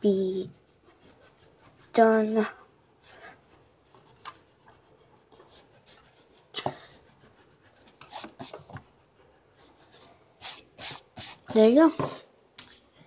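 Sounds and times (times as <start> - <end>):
eraser rubbing on paper: 0.0 - 11.7.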